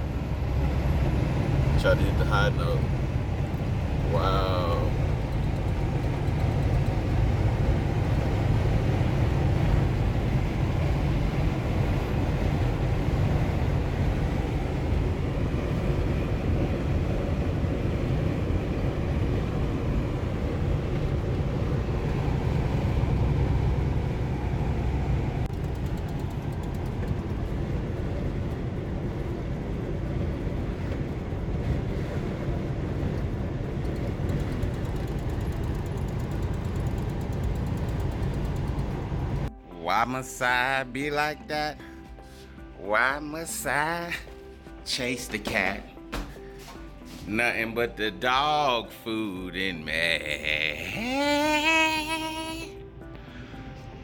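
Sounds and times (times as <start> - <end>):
truck engine and road drone: 0.0 - 54.0.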